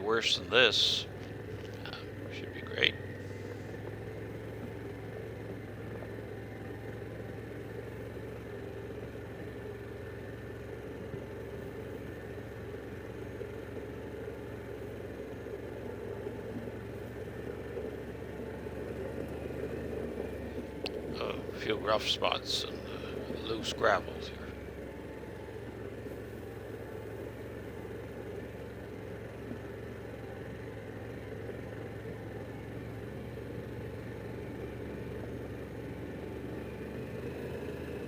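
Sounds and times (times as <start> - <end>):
motorcycle engine running: 0.0 - 38.0
road and wind noise: 0.0 - 38.0.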